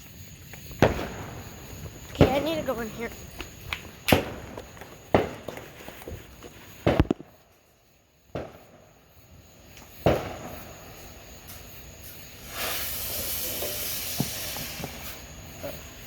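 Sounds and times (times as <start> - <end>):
steady high hiss: 0.0 - 16.0
firework bangs: 0.5 - 16.0.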